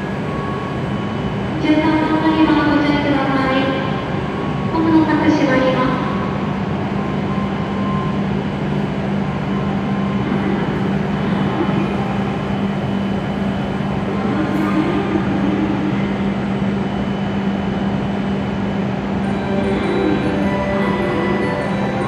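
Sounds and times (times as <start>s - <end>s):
train hum with low tone: 0.0s - 22.0s.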